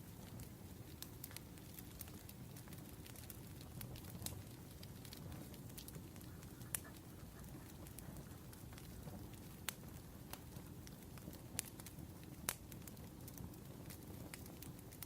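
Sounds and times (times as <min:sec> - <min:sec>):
fire popping sharply: 0:00.0 - 0:15.0
wood fire crackling: 0:00.0 - 0:15.0.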